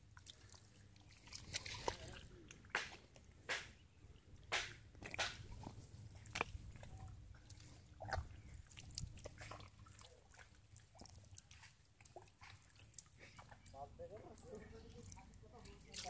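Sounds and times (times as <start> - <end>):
hands squelching through mud: 0.0 - 3.8, 4.5 - 16.0.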